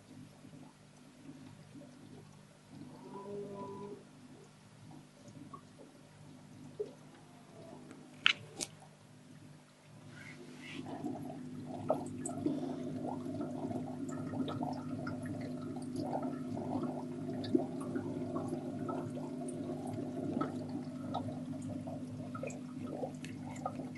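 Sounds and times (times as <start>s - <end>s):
aquarium water bubbling: 0.0s - 23.9s.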